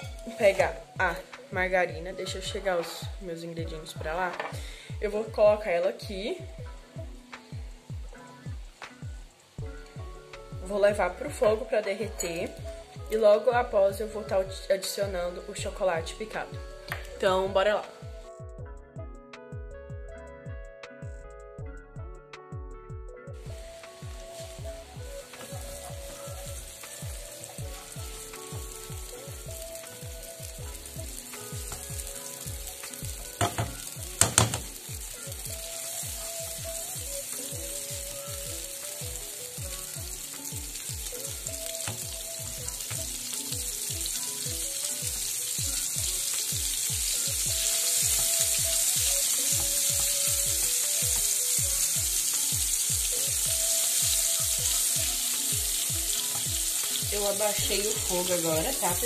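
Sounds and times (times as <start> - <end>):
margarine sizzling in a wok: 0.0 - 18.3, 23.2 - 59.0.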